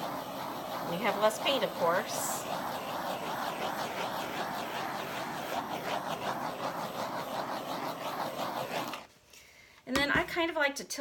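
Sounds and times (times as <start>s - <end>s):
torch flame hissing: 0.0s - 9.1s.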